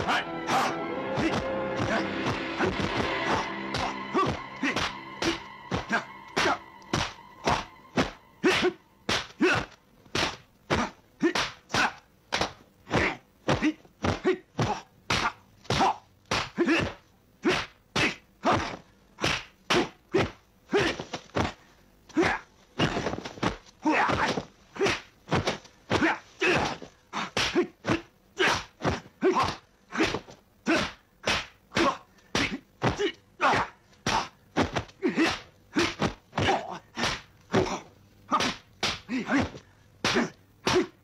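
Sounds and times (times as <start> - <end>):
punch and block whacks: 1.2 - 21.6, 22.2 - 41.0.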